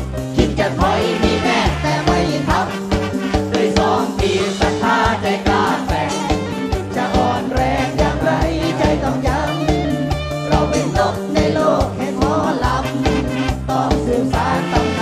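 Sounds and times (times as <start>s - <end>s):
driving drum beat: 0.0s - 15.0s
men singing into microphones: 0.2s - 15.0s.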